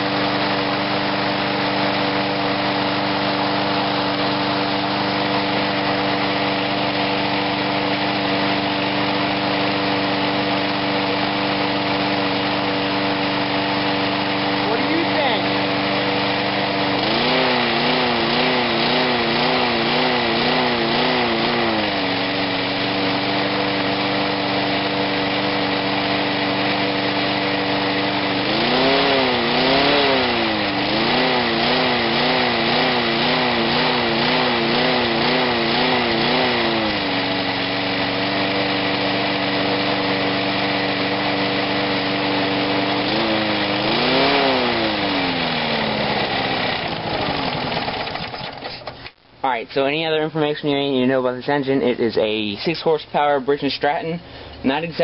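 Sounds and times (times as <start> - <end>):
mower engine surging: 0.0 - 55.0.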